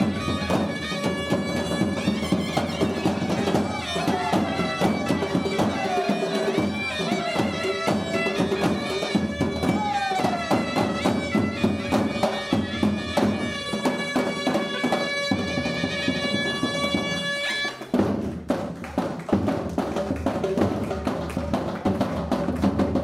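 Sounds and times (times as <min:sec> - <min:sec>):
steady drum beat: 0:00.0 - 0:23.0.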